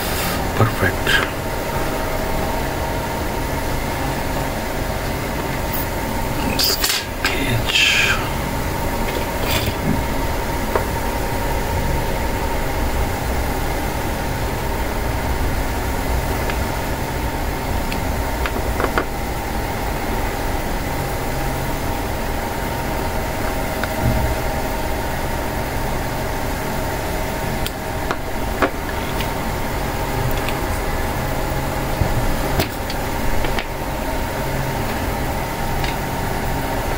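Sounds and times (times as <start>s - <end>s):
mechanical hum with low rumble: 0.0s - 36.9s.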